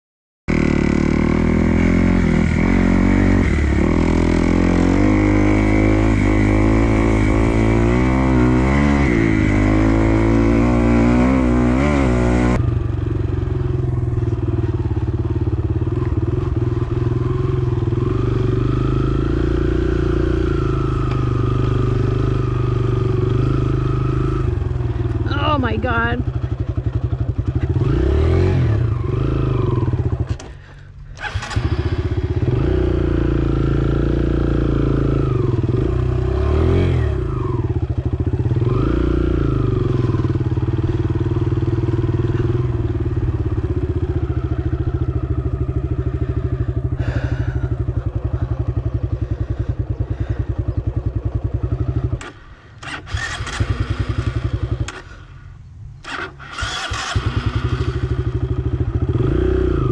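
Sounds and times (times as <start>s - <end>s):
dirt bike engine revving: 0.5s - 55.4s, 56.0s - 59.9s.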